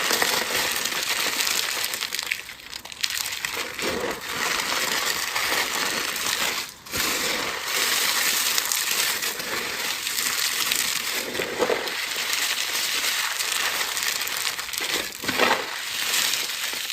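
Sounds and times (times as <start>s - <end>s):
dried block crunching: 0.0s - 16.9s.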